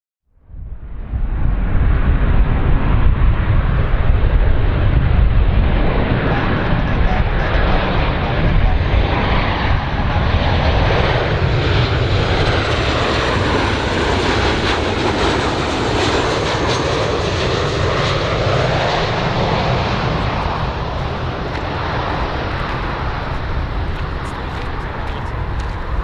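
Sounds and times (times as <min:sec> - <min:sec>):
airplane engines running: 0:00.6 - 0:26.0.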